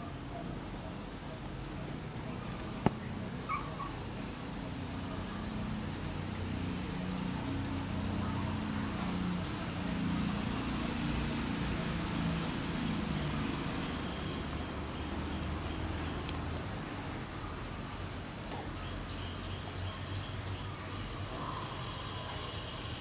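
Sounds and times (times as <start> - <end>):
engine-like hum: 0.0 - 23.0.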